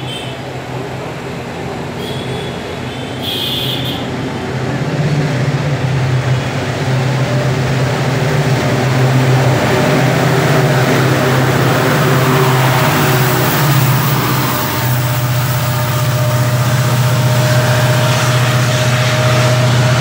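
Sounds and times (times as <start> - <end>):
locomotive engine drone: 0.0 - 20.0
wheel and rail hiss: 0.0 - 20.0.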